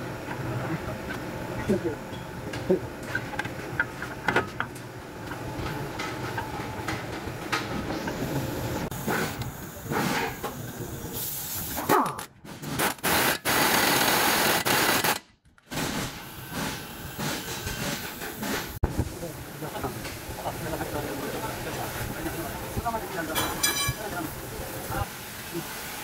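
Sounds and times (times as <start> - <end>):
workshop clatter: 0.0 - 26.0.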